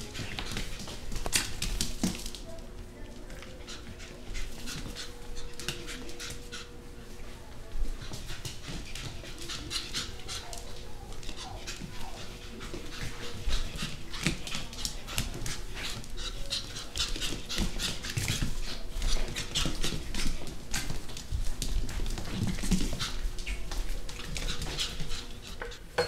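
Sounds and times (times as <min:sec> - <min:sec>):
puppy panting: 0:00.0 - 0:02.4, 0:03.0 - 0:25.8.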